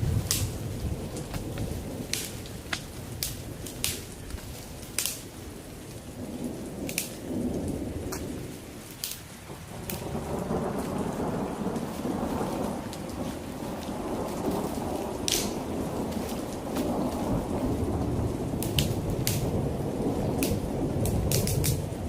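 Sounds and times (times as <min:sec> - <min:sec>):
heavy rain: 0:00.0 - 0:22.0
raindrops ticking close by: 0:00.0 - 0:22.0
rolling thunder: 0:00.0 - 0:22.0.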